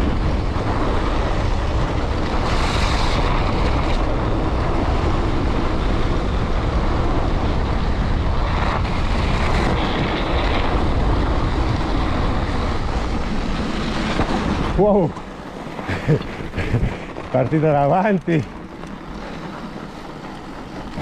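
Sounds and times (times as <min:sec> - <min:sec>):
studded tyres rolling on snow: 0:00.0 - 0:21.0
wind rush on microphone: 0:00.0 - 0:21.0.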